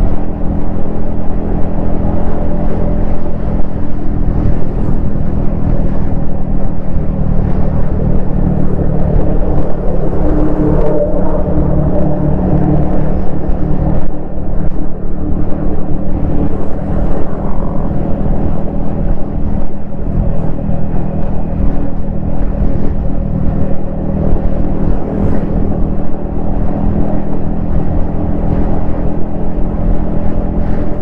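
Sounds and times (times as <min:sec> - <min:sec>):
motorcycle engine and exhaust: 0:00.0 - 0:31.0
road noise: 0:00.0 - 0:31.0
wind noise: 0:00.0 - 0:31.0.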